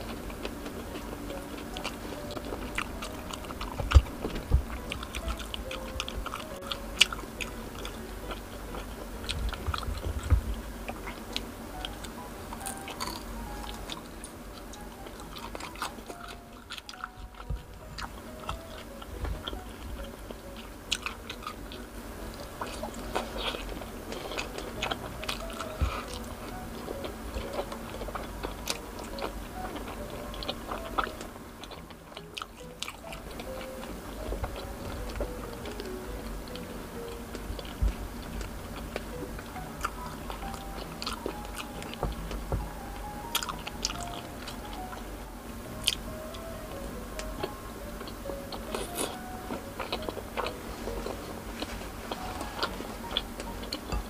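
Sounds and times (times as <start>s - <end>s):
chewing and biting food: 0.0s - 45.0s, 45.8s - 46.4s, 47.2s - 54.0s
faint background music: 0.0s - 54.0s.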